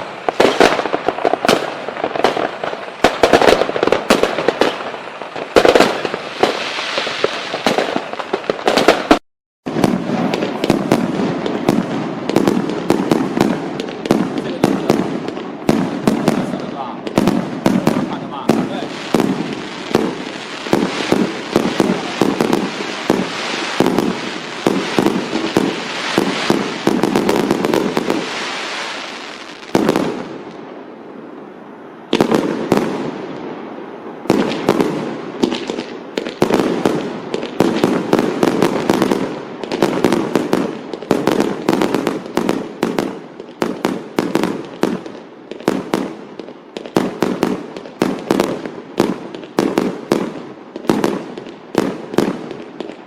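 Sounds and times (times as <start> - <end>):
firecrackers popping: 0.0 - 30.7, 32.1 - 33.5, 34.2 - 53.0.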